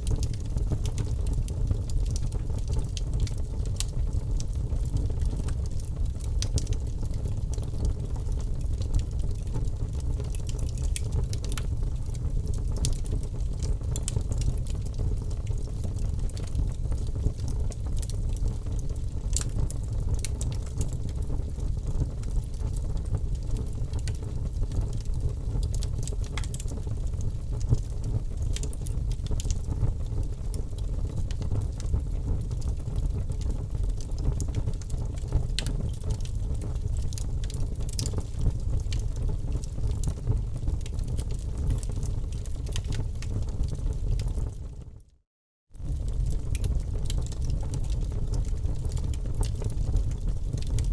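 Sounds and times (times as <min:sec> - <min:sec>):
wood fire crackling: 0:00.0 - 0:44.6, 0:45.8 - 0:50.9.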